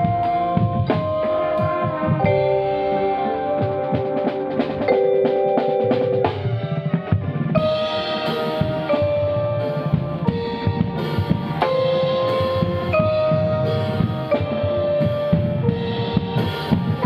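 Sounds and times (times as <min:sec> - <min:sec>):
drums and percussion: 0:00.0 - 0:17.0
vibraphone chords: 0:00.0 - 0:17.0.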